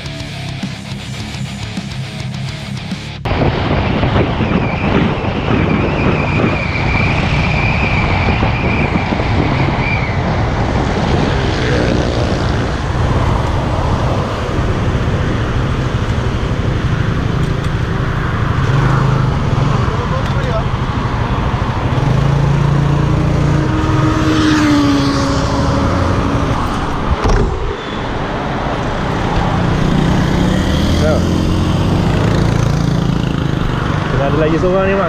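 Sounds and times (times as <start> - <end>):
surrounding traffic: 0.0 - 35.0
wind noise on microphone: 3.2 - 19.9, 20.7 - 34.2.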